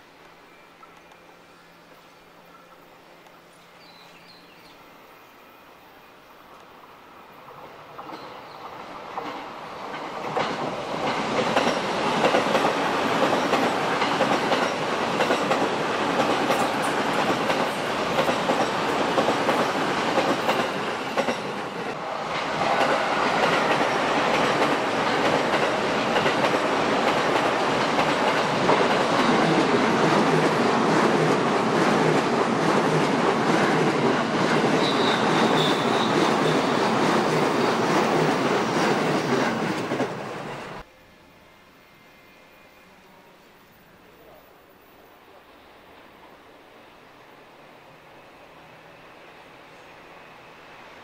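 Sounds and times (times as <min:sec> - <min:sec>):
electric train passing: 0:00.0 - 0:51.0.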